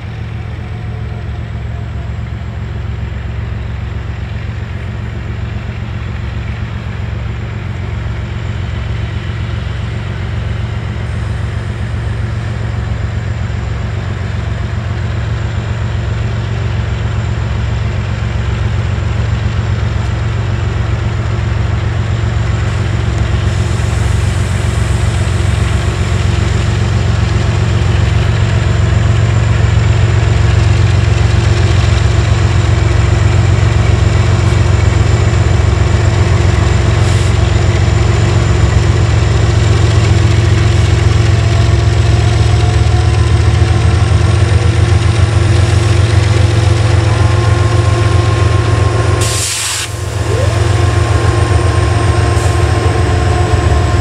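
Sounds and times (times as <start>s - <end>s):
diesel locomotive engines humming: 0.0s - 54.0s.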